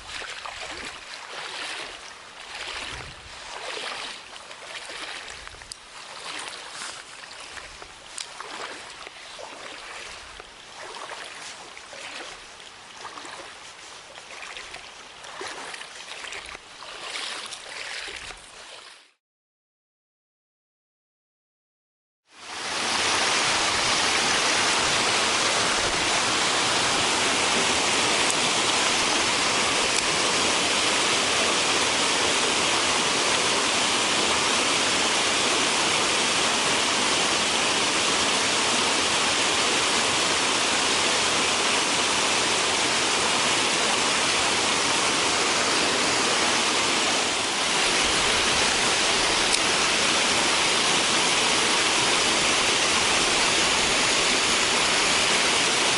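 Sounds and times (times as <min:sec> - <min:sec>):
stream water rushing: 0:00.0 - 0:19.0, 0:22.4 - 0:55.9.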